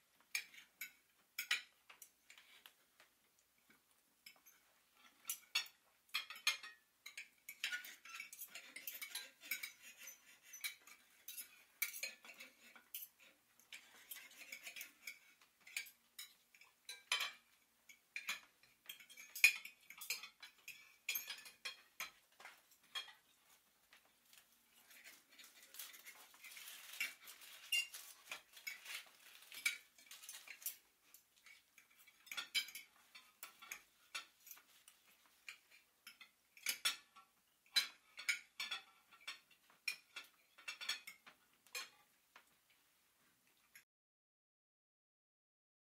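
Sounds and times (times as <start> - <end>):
cutlery and dishes clinking: 0.2 - 42.8.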